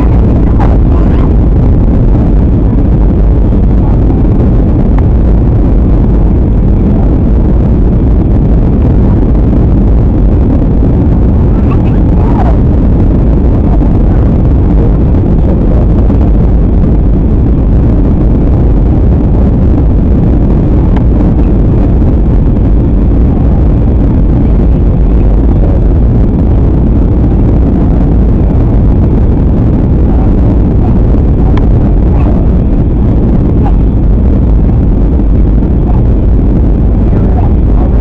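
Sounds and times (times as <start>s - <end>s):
jet engine roar in airliner cabin: 0.0s - 38.0s.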